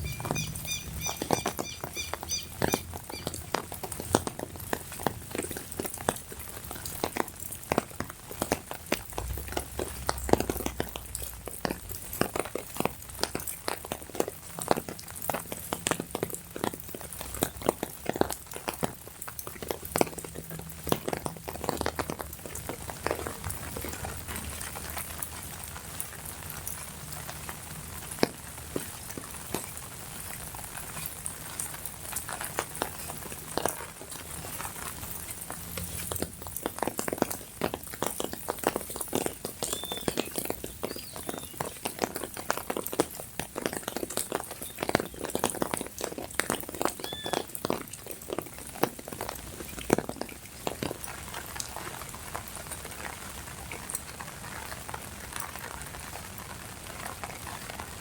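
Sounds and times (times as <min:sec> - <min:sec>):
hiss of rainfall: 0:00.0 - 0:58.0
rain drops ticking on umbrella: 0:00.0 - 0:58.0.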